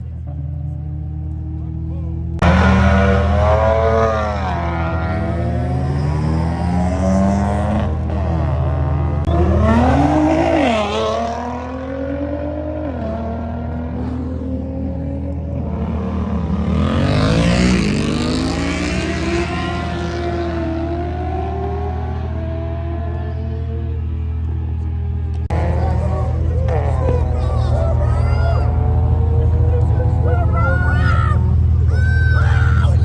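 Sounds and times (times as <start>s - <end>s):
car engine revving: 0.2s - 32.0s.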